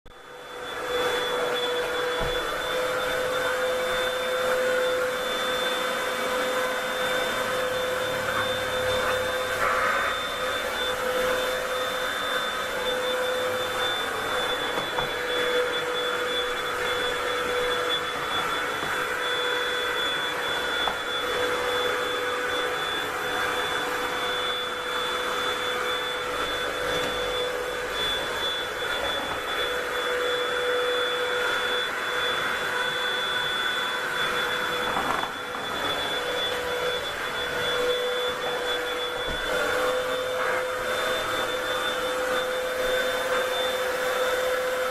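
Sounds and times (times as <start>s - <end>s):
vacuum cleaner running: 0.1s - 44.9s.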